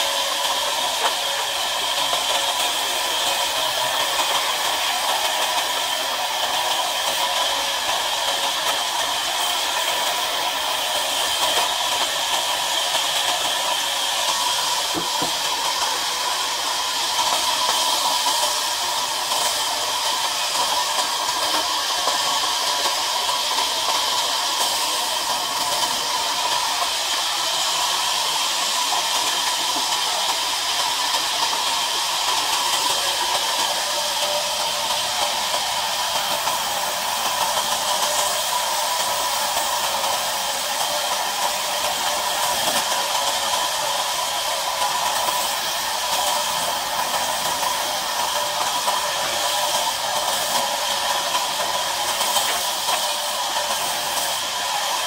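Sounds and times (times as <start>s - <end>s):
band saw whining through timber: 0.0s - 55.0s.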